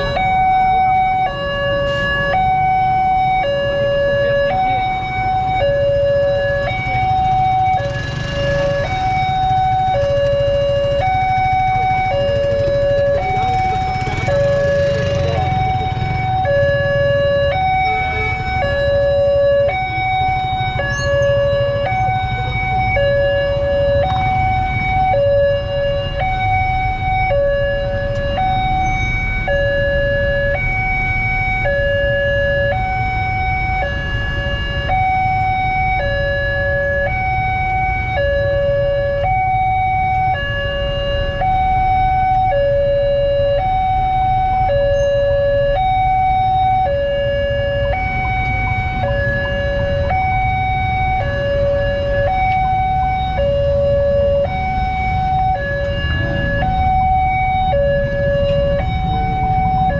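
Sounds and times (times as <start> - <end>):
two-tone crossing alarm: 0.0 - 59.9
vehicle engines idling: 0.0 - 59.9.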